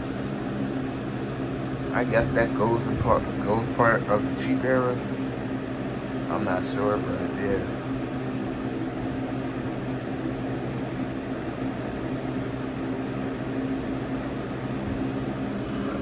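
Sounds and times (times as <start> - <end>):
air conditioner running: 0.0 - 16.0
box fan running: 0.0 - 16.0.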